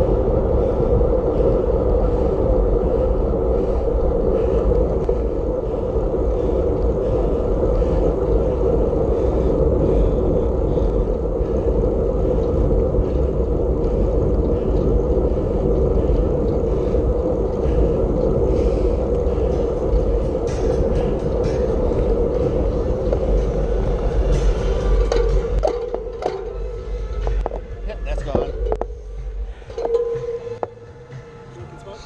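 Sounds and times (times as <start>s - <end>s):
wind rumble on microphone: 0.0s - 31.2s.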